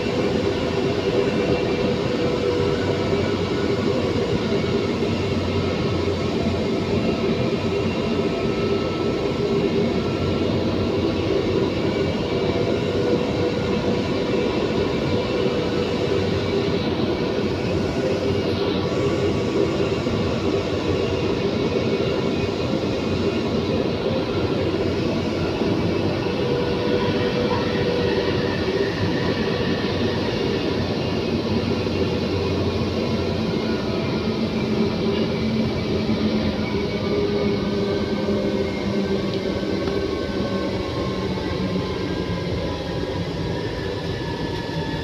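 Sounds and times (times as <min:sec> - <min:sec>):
train wheels rumbling on track: 0:00.0 - 0:45.0.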